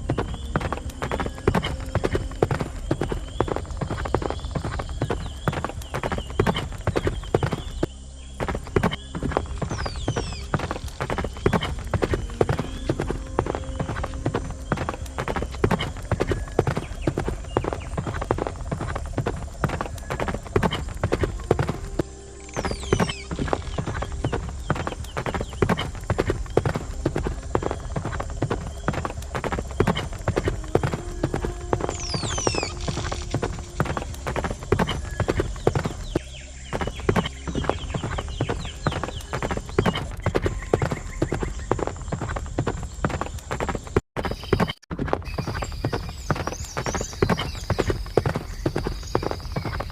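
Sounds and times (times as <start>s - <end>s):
horse hooves clip-clopping: 0.0s - 49.9s.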